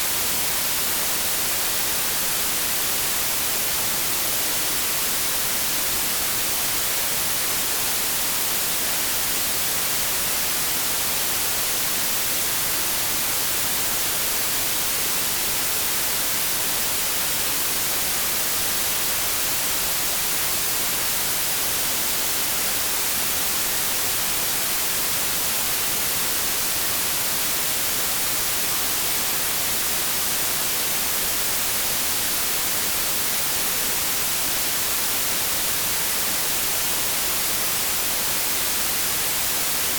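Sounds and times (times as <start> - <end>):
synthetic white noise hiss: 0.0 - 39.9.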